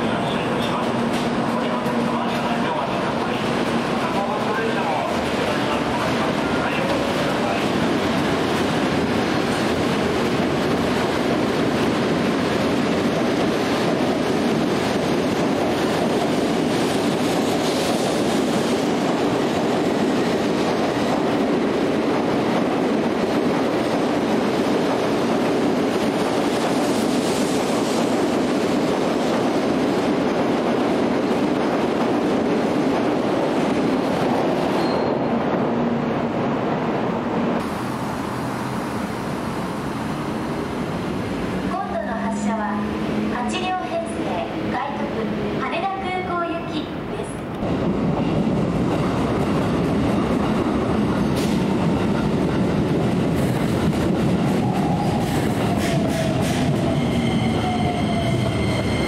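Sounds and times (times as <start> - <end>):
train rushing and wheel noise: 0.0 - 59.0.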